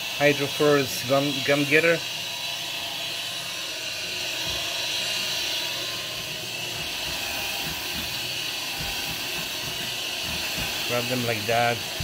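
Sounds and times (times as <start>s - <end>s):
steady machine hiss: 0.0s - 12.0s.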